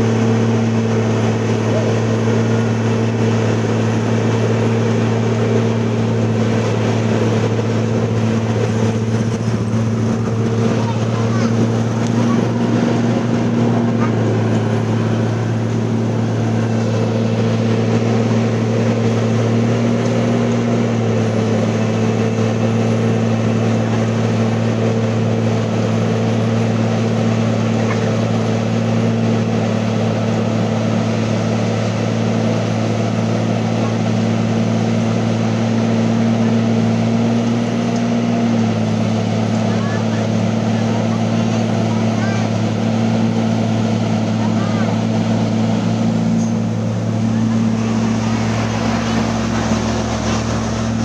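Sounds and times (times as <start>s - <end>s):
engine running steadily: 0.0s - 51.0s.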